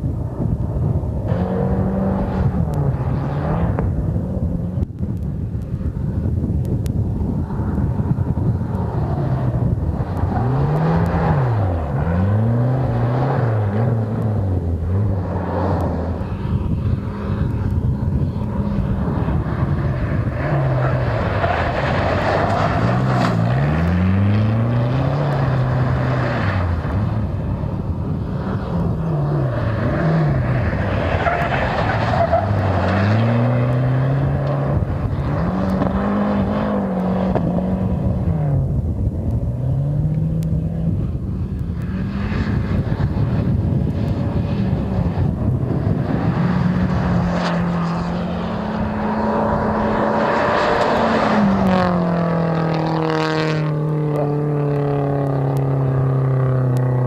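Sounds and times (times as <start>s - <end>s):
rally car engine revving: 0.1s - 5.0s, 7.2s - 57.0s.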